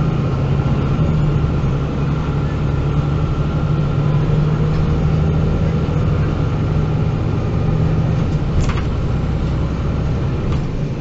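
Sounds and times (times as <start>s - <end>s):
bus diesel engine humming: 0.0s - 11.0s.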